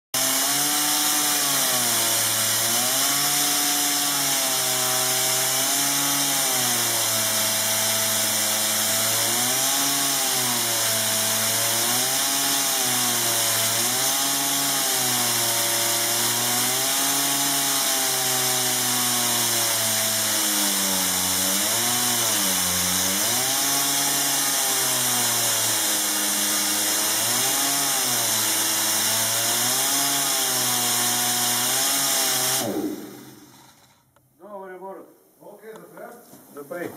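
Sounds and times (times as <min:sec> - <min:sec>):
pneumatic chainsaw cutting timber: 0:00.1 - 0:34.2.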